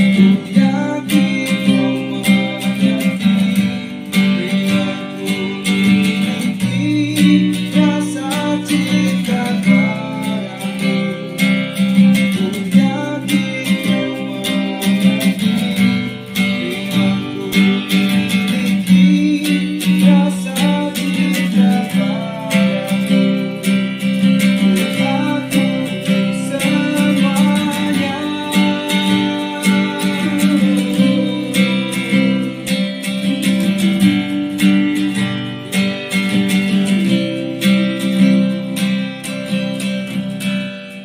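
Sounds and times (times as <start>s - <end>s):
acoustic guitar strumming: 0.0s - 41.0s
man singing: 0.0s - 41.0s.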